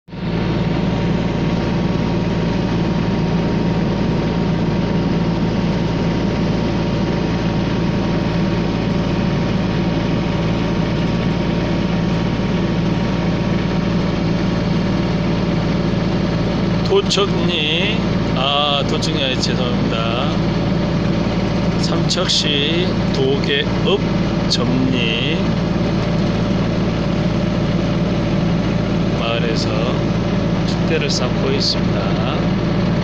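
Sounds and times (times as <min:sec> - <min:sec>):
engine idling: 0:00.1 - 0:33.0.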